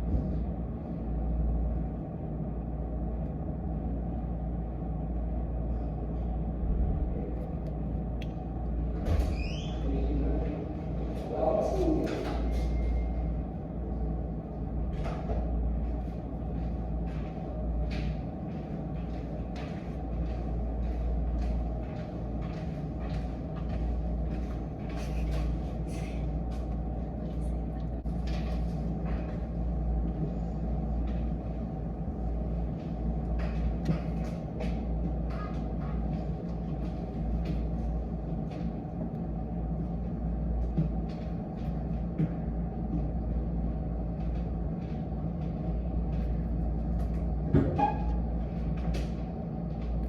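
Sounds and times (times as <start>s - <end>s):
low background rumble: 0.0s - 50.0s.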